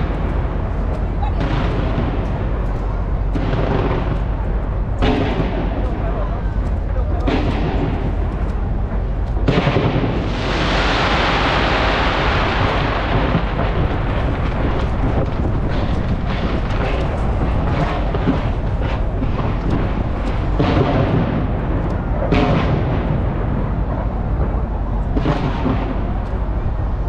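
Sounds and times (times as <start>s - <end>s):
rumble of fireworks explosions: 0.0s - 27.0s
sharp fireworks bangs: 0.0s - 27.0s.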